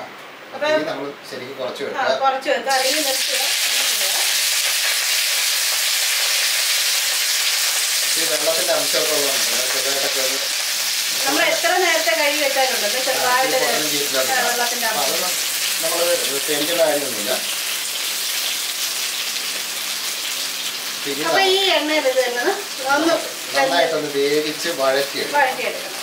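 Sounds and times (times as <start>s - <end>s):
leaves sizzling in hot oil: 2.7s - 26.0s.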